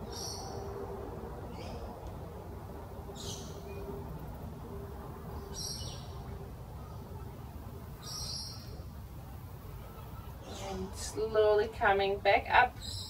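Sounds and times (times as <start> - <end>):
birds calling: 0.0 - 2.1, 3.0 - 13.0
low background noise: 0.0 - 13.0.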